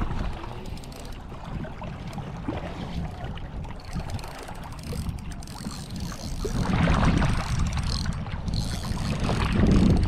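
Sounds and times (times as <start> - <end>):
water lapping against rocks: 0.0 - 10.0
wind buffeting microphone: 0.0 - 10.0.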